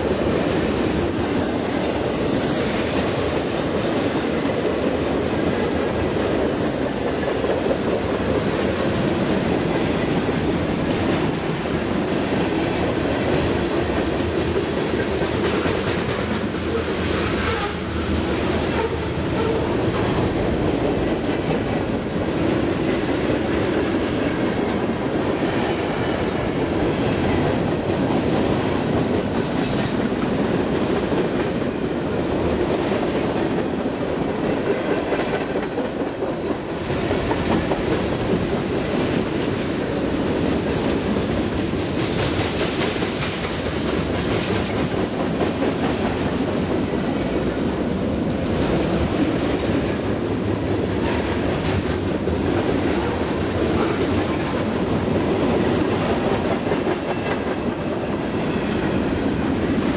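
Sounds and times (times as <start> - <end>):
train wheels running over rails: 0.0 - 59.9.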